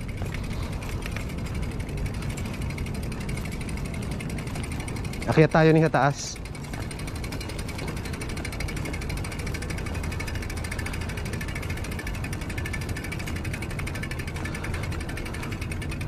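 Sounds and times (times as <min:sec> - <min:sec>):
bicycle freewheel ticking: 0:00.0 - 0:16.0.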